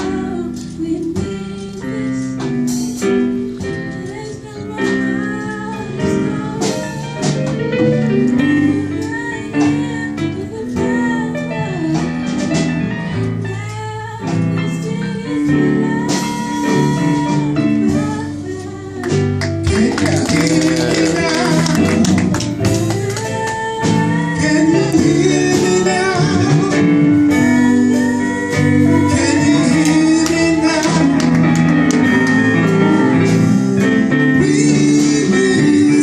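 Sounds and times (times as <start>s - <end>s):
instrumental accompaniment: 0.0s - 36.0s
woman singing into microphone: 0.0s - 36.0s.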